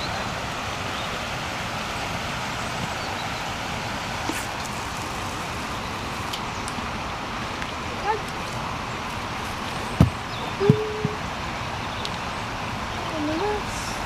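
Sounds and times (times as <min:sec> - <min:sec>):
water rushing over a weir: 0:00.0 - 0:14.0.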